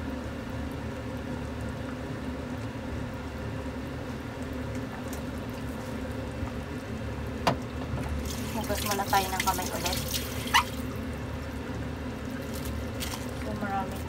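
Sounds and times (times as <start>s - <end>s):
soup bubbling in a pot: 0.0s - 14.0s.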